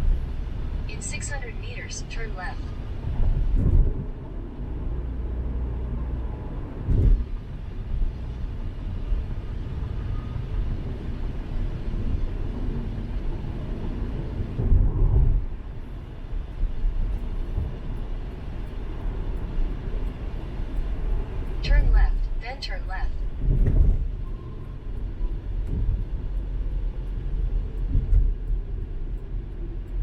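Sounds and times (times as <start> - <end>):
road and engine rumble in car: 0.0 - 30.0.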